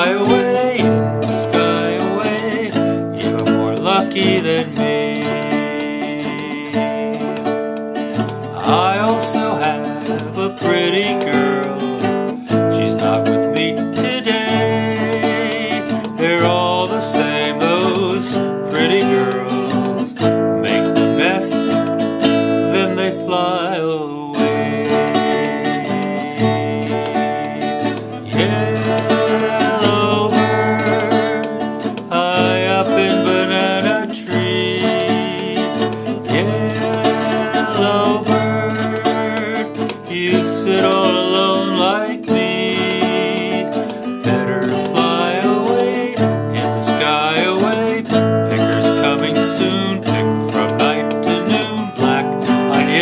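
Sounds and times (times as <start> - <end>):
strummed acoustic guitar music: 0.0 - 53.0.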